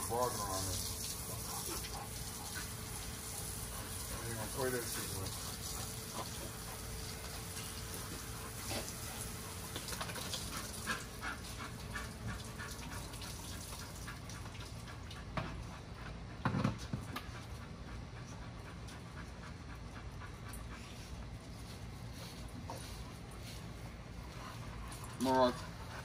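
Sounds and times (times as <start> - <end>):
dog panting: 0.1 - 26.0.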